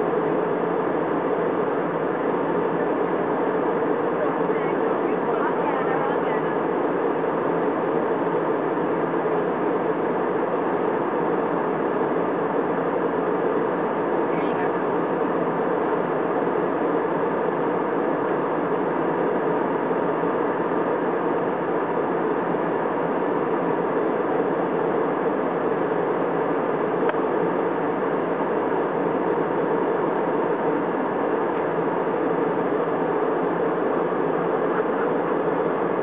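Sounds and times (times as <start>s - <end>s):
jet airliner cabin noise: 0.0s - 36.0s.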